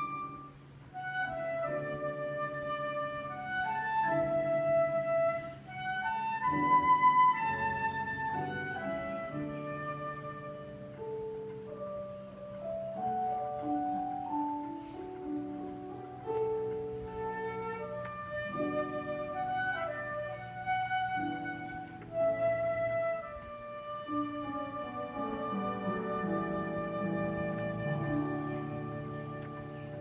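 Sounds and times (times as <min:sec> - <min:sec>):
slow hymn melody instrument: 0:00.0 - 0:30.0
sustained keyboard accompaniment: 0:00.0 - 0:30.0.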